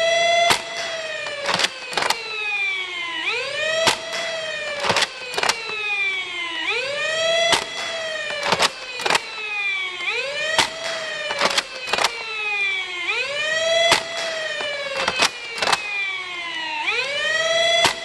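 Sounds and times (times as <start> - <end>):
toy blaster clacks: 0.0 - 2.7, 3.6 - 6.1, 7.3 - 18.0
flywheel motors whining: 0.0 - 18.0.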